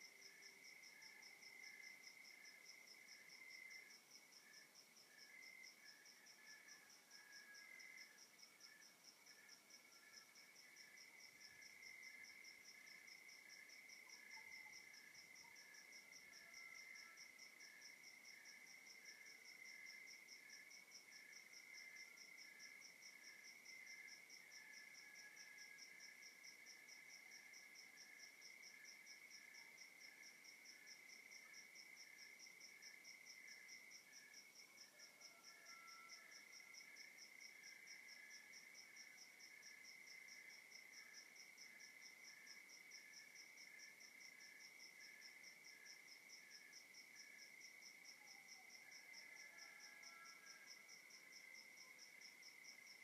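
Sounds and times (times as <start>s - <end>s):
insect chirps: 0.0s - 53.0s.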